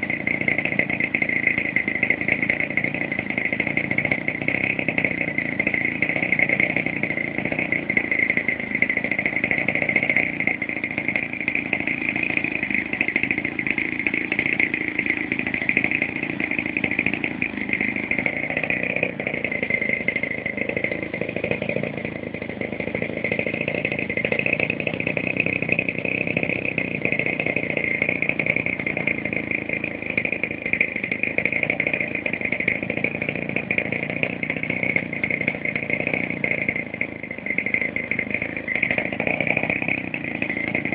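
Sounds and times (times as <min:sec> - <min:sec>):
model airplane engine running: 0:00.0 - 0:40.9.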